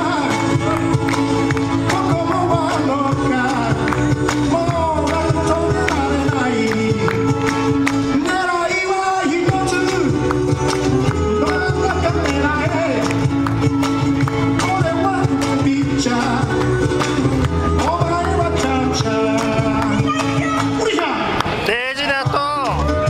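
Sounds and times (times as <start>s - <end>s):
man singing: 0.0s - 13.7s, 14.4s - 20.8s
strummed ukulele: 0.0s - 20.8s
electric bass: 0.0s - 23.0s.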